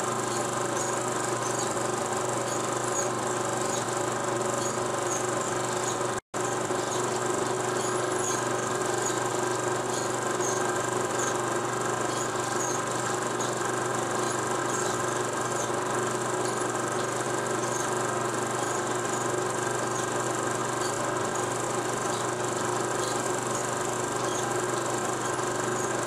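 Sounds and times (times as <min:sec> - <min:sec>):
film projector whirring: 0:00.0 - 0:26.0.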